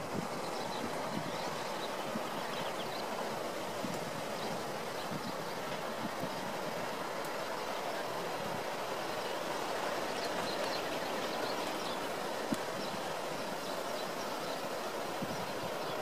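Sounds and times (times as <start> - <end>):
ocean surf roaring: 0.0 - 16.0.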